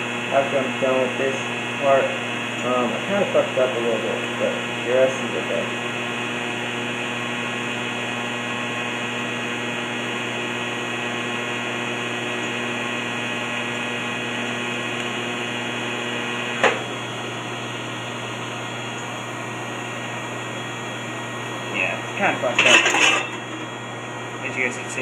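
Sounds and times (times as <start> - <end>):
machine hum: 0.0 - 25.0
welding arc buzzing: 0.0 - 25.0.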